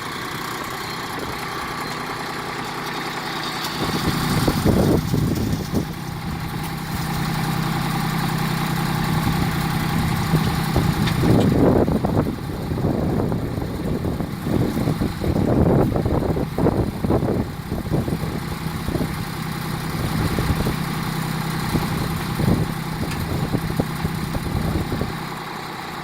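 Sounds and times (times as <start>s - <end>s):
rough uneven engine noise: 0.0s - 26.0s
tractor diesel engine running: 0.0s - 26.0s.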